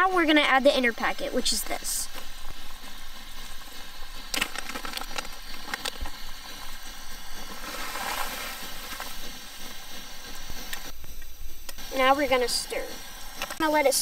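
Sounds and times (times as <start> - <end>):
camp stove burning: 0.0 - 14.0
food sizzling in boiling liquid: 0.0 - 14.0.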